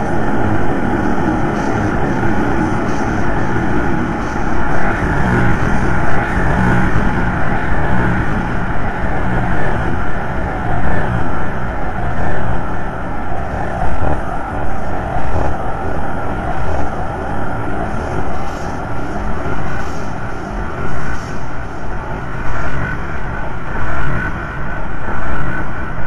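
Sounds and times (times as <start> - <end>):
rumbling noise drone: 0.0 - 26.0.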